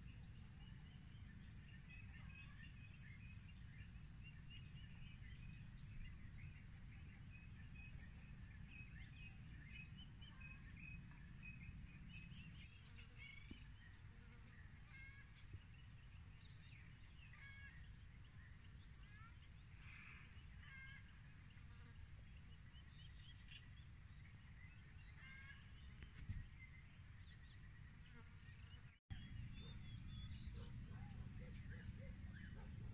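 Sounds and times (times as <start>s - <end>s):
faint birds chirping: 0.0s - 32.9s.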